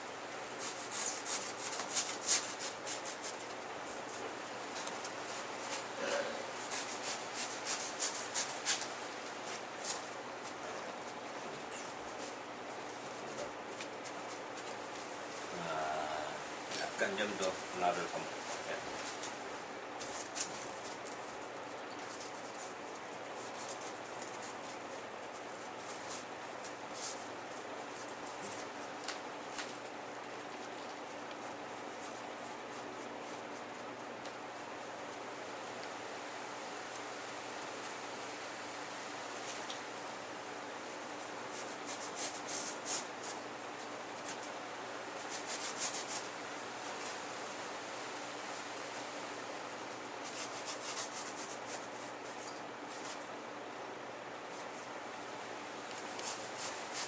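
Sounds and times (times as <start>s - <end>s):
foam rustling and brushing: 0.0s - 15.6s, 16.8s - 53.4s, 55.8s - 57.0s
steady hiss: 0.0s - 57.0s.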